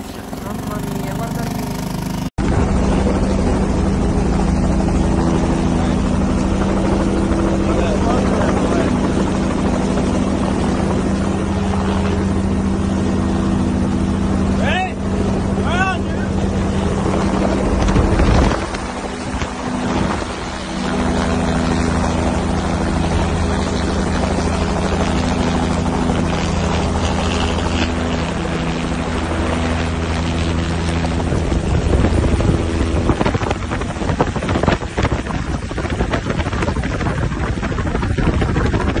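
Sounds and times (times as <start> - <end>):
gusting wind noise: 0.0 - 39.0
helicopter rotor drone: 0.0 - 39.0.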